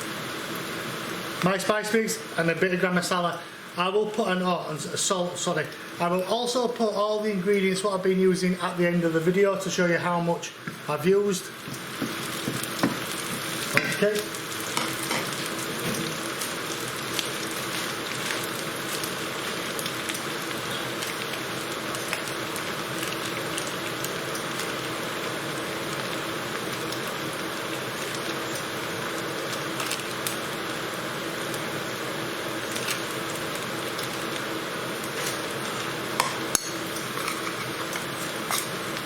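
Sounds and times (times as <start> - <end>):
vegetables sizzling in a pan: 0.0 - 8.0, 10.5 - 39.0.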